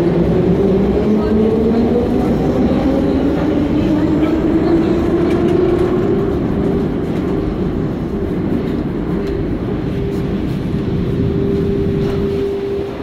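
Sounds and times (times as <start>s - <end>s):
constant hum: 0.0s - 13.0s
loud steady rumble: 0.0s - 13.0s.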